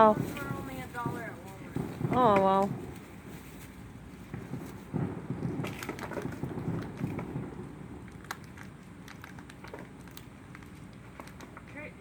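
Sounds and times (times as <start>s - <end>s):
firework crackling and popping: 0.0s - 12.0s.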